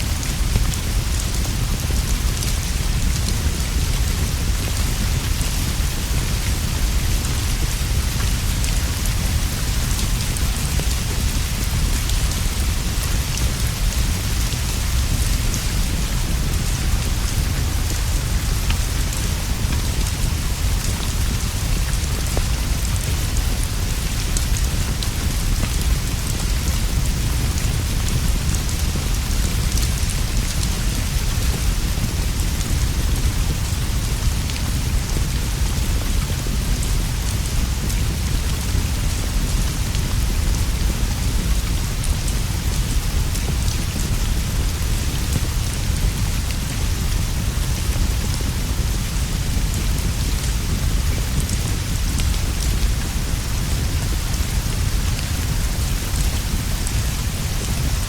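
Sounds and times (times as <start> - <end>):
rain on leaves and straw roof: 0.0 - 58.0.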